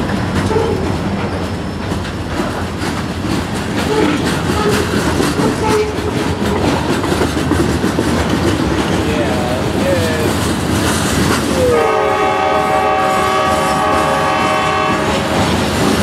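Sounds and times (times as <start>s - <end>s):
freight train rumbling past: 0.0s - 16.0s
wheels clacking over rail joints: 0.0s - 16.0s.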